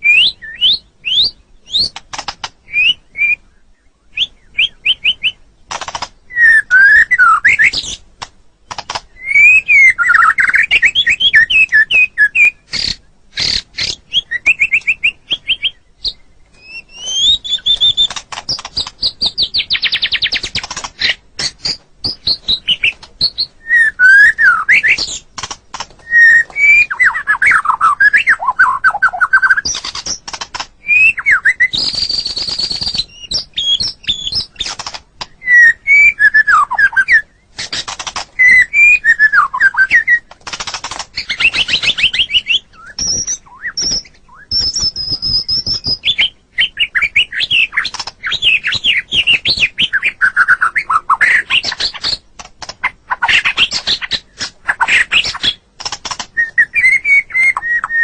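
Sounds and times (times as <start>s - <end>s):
songbird singing varied song: 0.0s - 58.0s.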